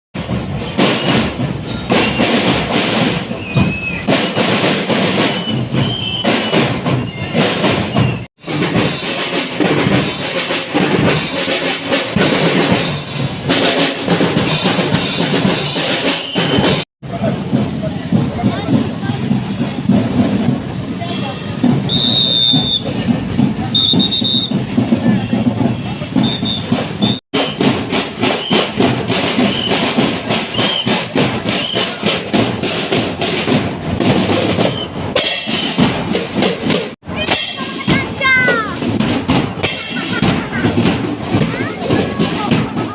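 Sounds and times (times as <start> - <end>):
marching drum band: 0.1 - 42.9
snare and bass drums beating: 0.1 - 42.9.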